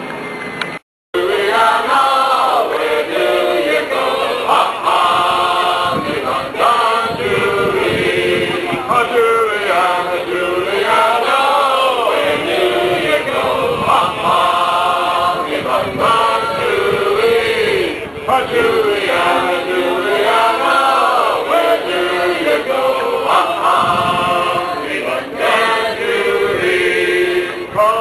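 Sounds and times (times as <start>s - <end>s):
men singing in chorus: 1.2s - 28.0s.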